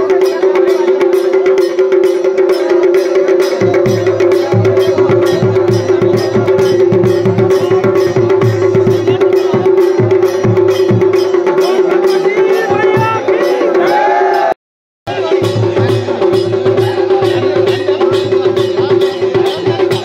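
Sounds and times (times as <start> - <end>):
small drum beating: 0.0 - 14.5, 15.1 - 20.0
dhol drum beating: 0.0 - 20.0.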